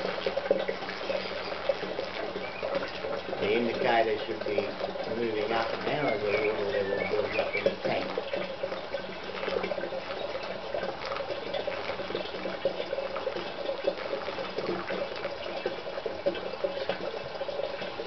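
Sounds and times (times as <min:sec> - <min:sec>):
water pouring into plastic drum: 0:00.0 - 0:18.0.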